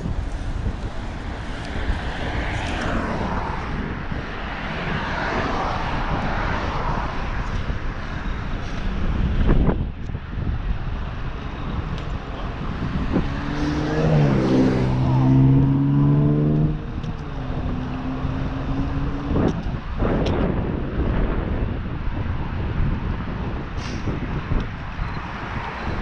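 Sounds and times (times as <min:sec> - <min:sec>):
engine-like hum: 0:00.0 - 0:22.4
wind rushing over microphone: 0:00.0 - 0:26.0.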